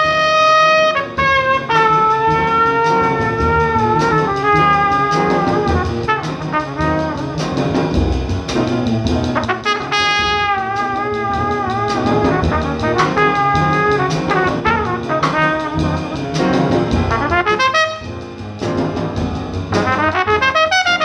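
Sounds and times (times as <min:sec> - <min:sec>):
jazz trumpet solo: 0:00.0 - 0:08.7, 0:09.3 - 0:18.4, 0:19.7 - 0:21.0
drums: 0:00.0 - 0:21.0
piano: 0:00.0 - 0:21.0
upright bass: 0:01.0 - 0:21.0.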